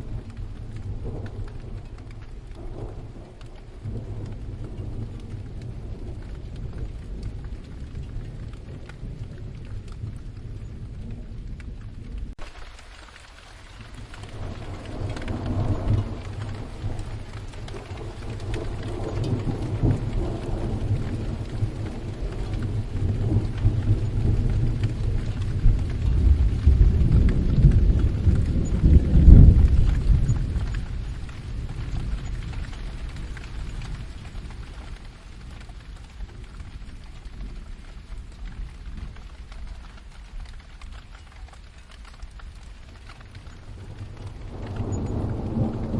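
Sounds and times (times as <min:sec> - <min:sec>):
steady rain: 0:00.0 - 0:45.9
thunder rumbling: 0:00.0 - 0:45.9.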